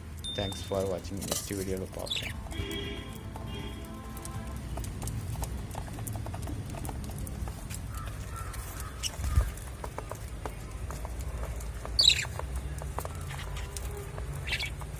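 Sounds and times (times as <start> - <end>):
budgies clicking and tapping in cage: 0.4 - 14.9.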